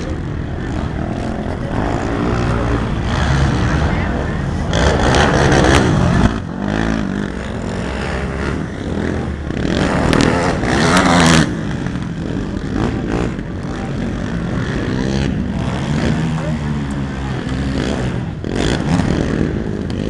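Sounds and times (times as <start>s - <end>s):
quad engines revving: 0.0s - 20.0s.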